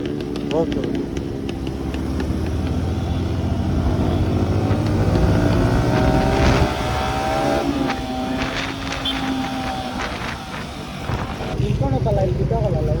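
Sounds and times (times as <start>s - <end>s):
motorcycle engine rising: 0.0s - 12.1s.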